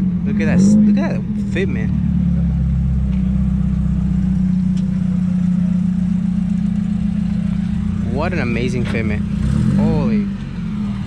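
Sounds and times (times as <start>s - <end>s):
pickup truck engine droning: 0.0s - 11.0s.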